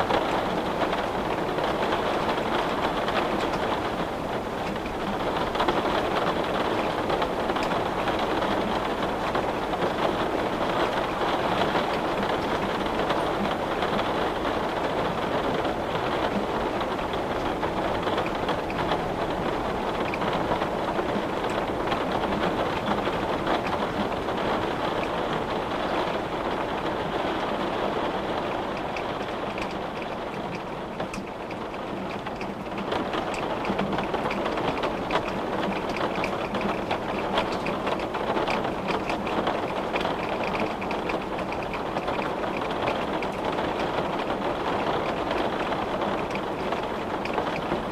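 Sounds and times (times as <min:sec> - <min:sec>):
rain on a window: 0:00.0 - 0:47.9.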